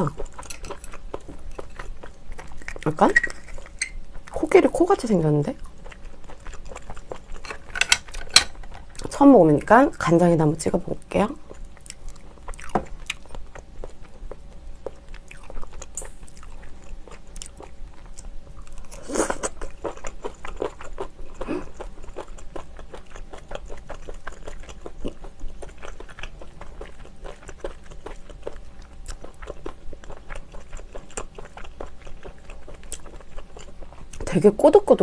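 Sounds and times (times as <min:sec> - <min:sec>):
chewing with wet clicks and crunches: 0:00.0 - 0:09.8, 0:11.2 - 0:35.0.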